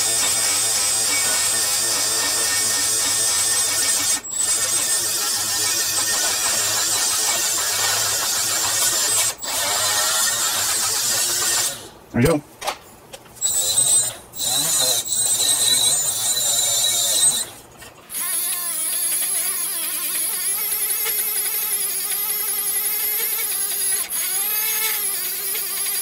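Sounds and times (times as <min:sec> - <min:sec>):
die grinder whining: 0:00.0 - 0:11.9, 0:13.4 - 0:26.0.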